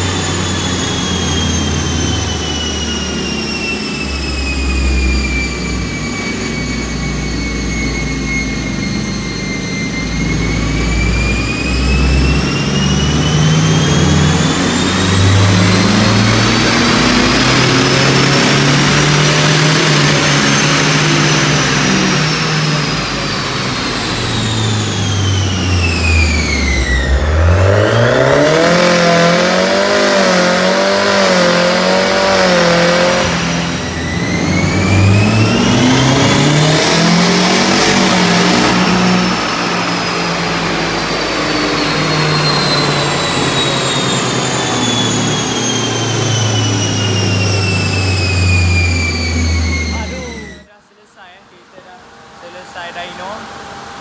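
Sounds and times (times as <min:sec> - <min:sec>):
engine whine revving: 0:00.0 - 0:54.0.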